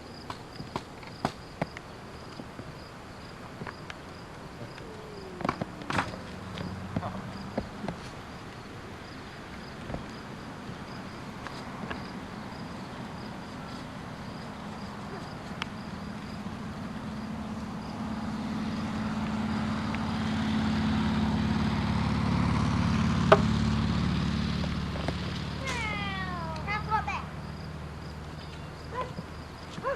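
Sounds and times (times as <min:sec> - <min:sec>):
vehicle engine humming: 0:00.0 - 0:29.9.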